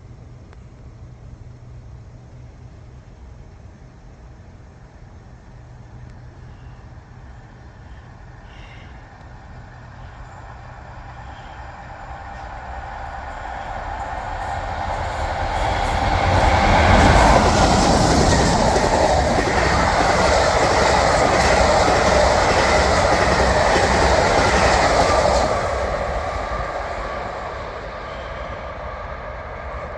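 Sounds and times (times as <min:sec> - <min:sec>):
train wheels on rails: 0:05.2 - 0:29.9.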